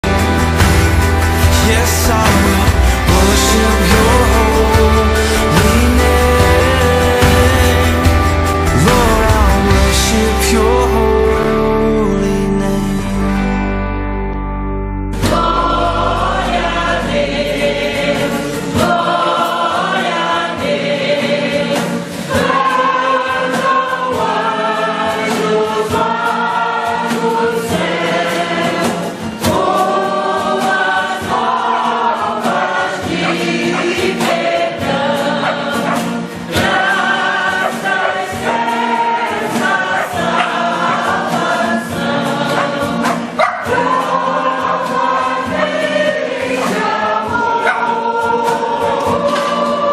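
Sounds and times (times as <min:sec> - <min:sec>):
choir singing: 0:00.0 - 0:13.3, 0:15.2 - 0:49.9.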